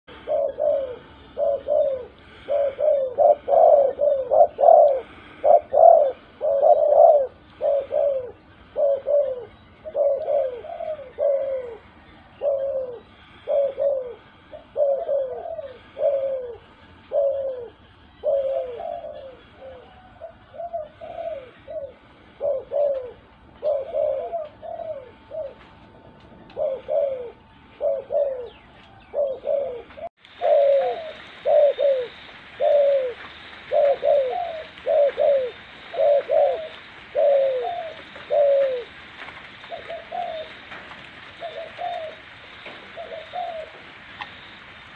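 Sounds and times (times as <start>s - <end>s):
dove cooing: 0.1s - 44.9s.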